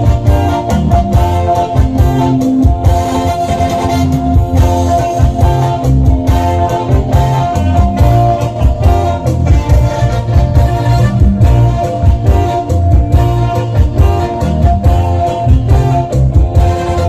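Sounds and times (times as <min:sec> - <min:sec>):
band playing loud music: 0:00.0 - 0:17.0
bass notes: 0:00.0 - 0:17.0
steady drum beat: 0:00.0 - 0:17.0.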